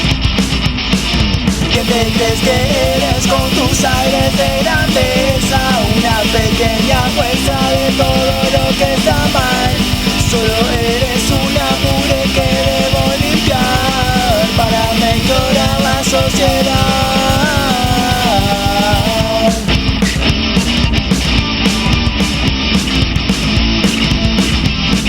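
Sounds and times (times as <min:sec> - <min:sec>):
punk rock band playing: 0:00.0 - 0:25.0.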